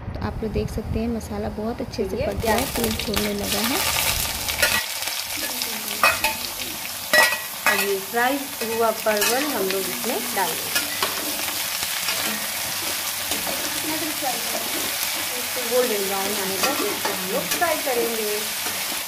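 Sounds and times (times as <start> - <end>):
vegetables sizzling in oil: 2.3 - 19.0.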